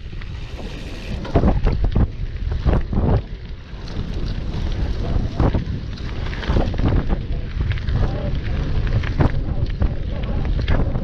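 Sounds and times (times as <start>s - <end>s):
bike rattling over bumps: 0.0s - 11.0s
tyres rumbling on dirt track: 0.0s - 11.0s
wind buffeting microphone: 0.0s - 11.0s.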